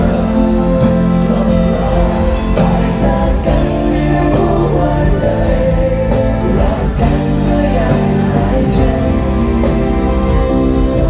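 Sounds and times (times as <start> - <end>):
person singing: 0.0 - 11.0
rock band playing: 0.0 - 11.0.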